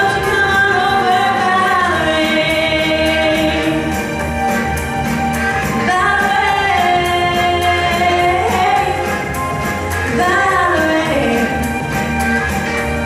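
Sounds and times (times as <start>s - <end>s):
woman singing pop song: 0.0s - 4.3s, 5.6s - 12.1s
backing music with steady beat: 0.0s - 13.0s.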